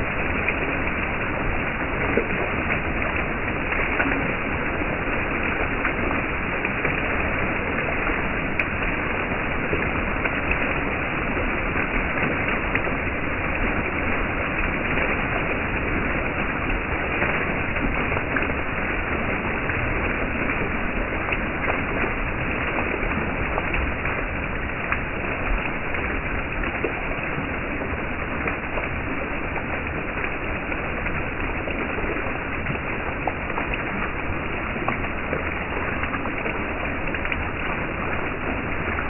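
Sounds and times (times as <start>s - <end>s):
fountain water splashing: 0.0s - 39.0s.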